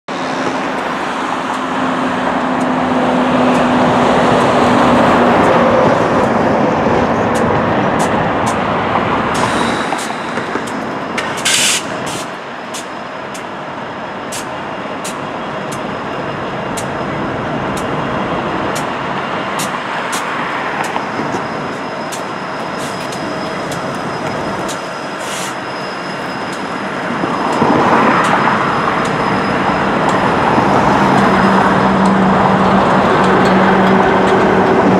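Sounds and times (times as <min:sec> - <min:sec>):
road traffic noise: 0:00.0 - 0:34.9
diesel freight locomotives passing: 0:00.1 - 0:34.9.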